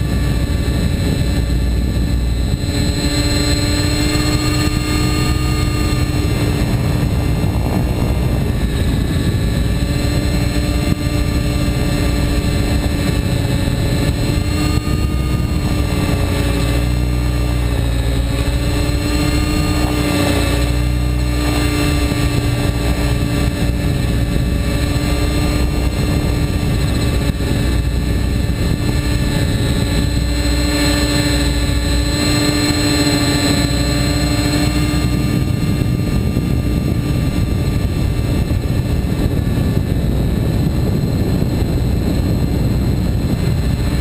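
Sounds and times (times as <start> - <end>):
motor and gears whining: 0.0 - 44.0
rotor blades droning: 0.0 - 44.0.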